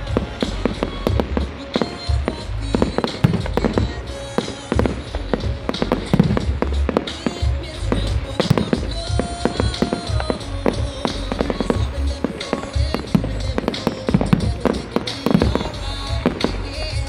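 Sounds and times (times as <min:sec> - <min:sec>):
fireworks bangs and crackles: 0:00.0 - 0:17.0
fireworks deep booms: 0:00.0 - 0:17.0
music: 0:00.0 - 0:17.0.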